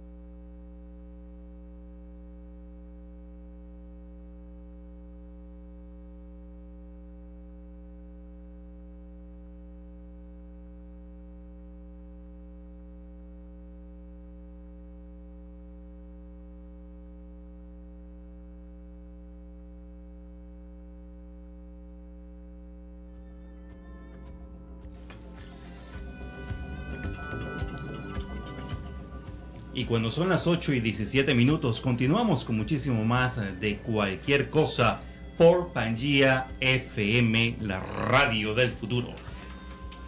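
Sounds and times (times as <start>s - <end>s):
electrical mains hum: 0.0s - 40.0s.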